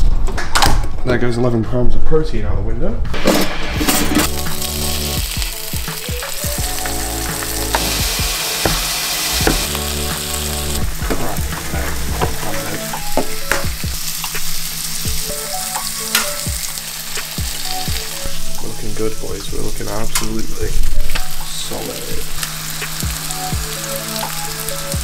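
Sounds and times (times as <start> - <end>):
bacon and egg sizzling in a pan: 3.2 - 25.0.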